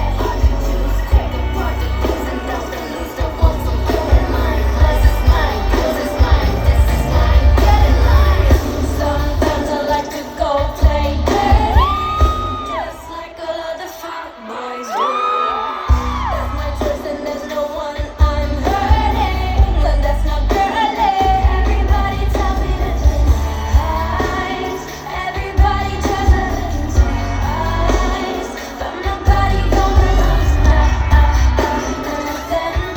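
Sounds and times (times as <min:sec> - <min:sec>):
female vocals: 0:00.0 - 0:32.9.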